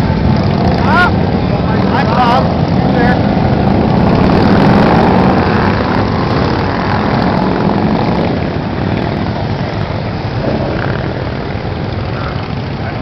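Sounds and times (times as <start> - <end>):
group of motorcycle engines: 0.0 - 13.0.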